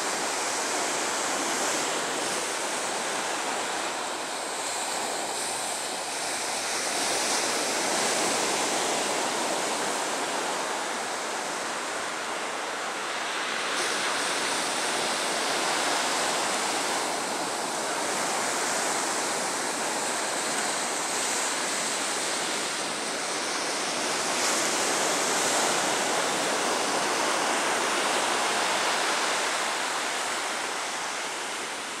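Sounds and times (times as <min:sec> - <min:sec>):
ocean surf on beach: 0:00.0 - 0:32.0.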